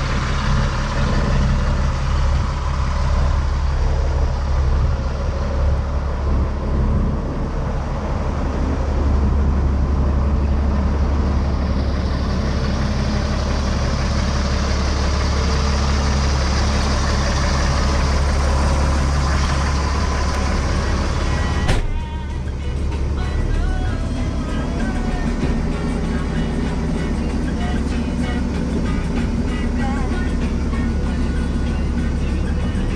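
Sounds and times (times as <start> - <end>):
truck engine idling: 0.0 - 32.9.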